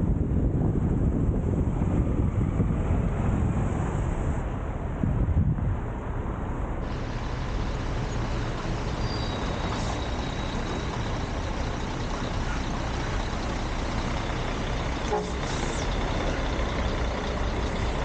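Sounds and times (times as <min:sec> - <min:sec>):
low diesel rumble: 0:00.0 - 0:18.0.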